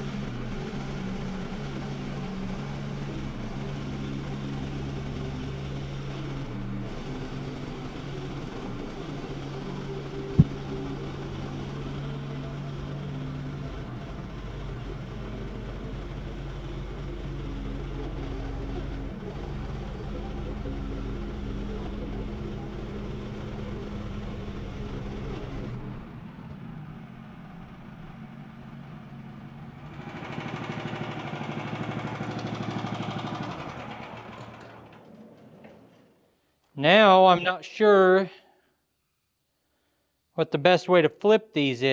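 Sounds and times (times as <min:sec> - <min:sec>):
sawmill engine running: 0:00.0 - 0:36.3.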